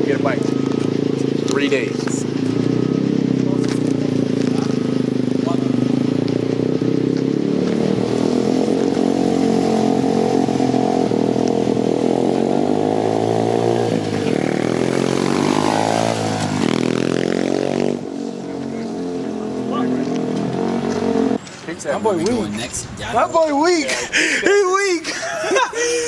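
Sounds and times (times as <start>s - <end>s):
dirt bike engine revving: 0.0s - 21.4s.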